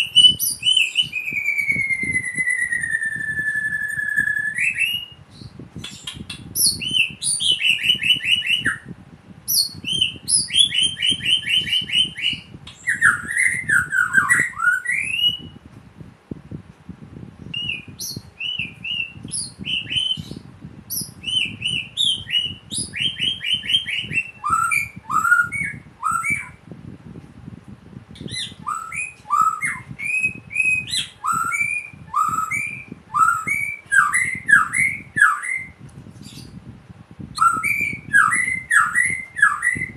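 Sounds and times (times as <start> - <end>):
bird singing chirps and trills: 0.0 - 8.9, 9.5 - 15.6, 17.4 - 26.6, 28.2 - 36.6, 37.4 - 39.9.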